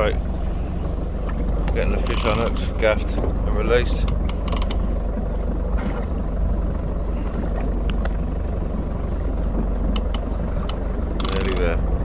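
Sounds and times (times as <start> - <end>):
outboard engine idling: 0.0 - 12.0.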